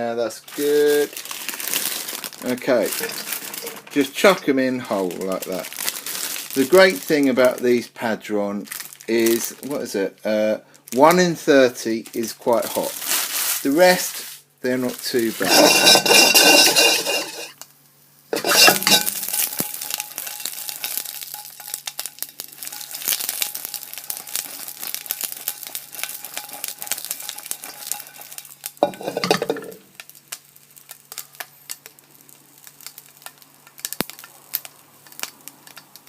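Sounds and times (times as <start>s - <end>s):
peppers sizzling in a wok: 0.0s - 36.0s.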